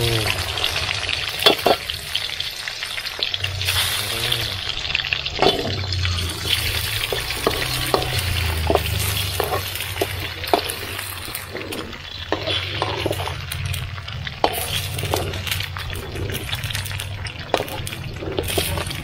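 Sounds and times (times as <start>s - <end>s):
garlic sizzling in a wok: 0.0s - 19.0s
metal spatula scraping a pan: 0.6s - 2.2s, 3.3s - 19.0s.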